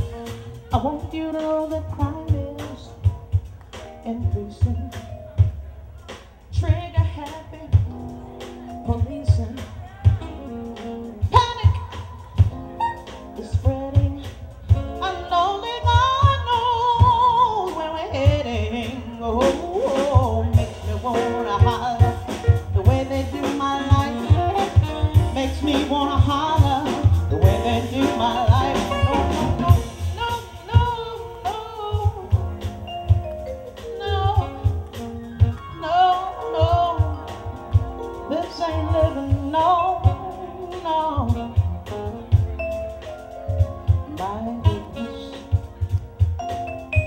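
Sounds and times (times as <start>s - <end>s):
jazz-funk band playing: 0.0s - 47.0s.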